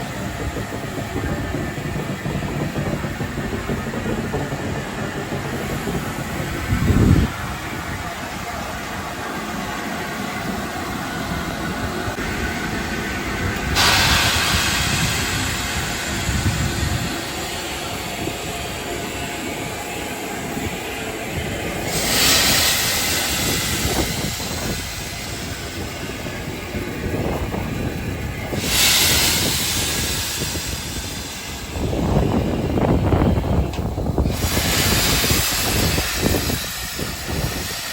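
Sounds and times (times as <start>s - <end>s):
steam hissing: 0.0s - 37.9s
steam locomotive low rumble: 0.0s - 37.9s.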